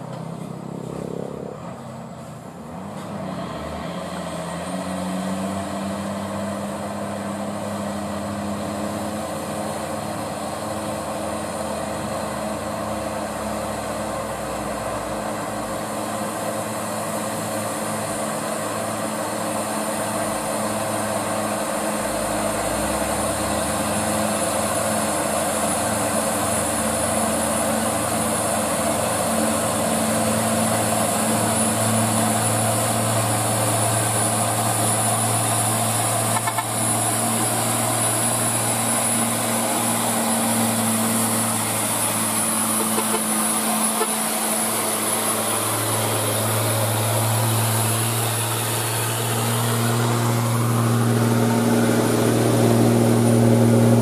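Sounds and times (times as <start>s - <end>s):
diesel truck engines droning: 0.0s - 54.0s.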